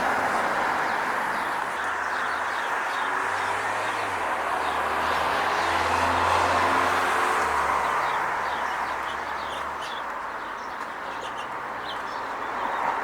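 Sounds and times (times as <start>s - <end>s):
distant traffic: 0.0s - 13.0s
small birds chirping: 0.0s - 13.0s.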